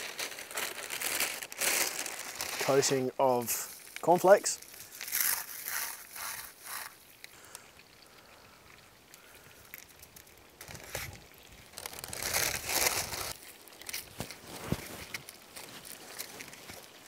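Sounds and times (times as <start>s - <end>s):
crumbs crunching under hands: 0.0s - 7.4s, 9.2s - 17.0s.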